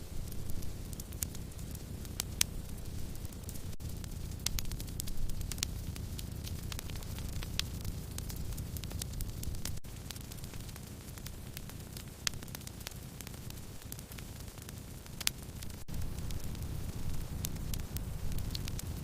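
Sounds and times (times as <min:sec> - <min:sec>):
loud fire pops: 0:00.0 - 0:19.0
wood fire crackling: 0:00.0 - 0:19.0.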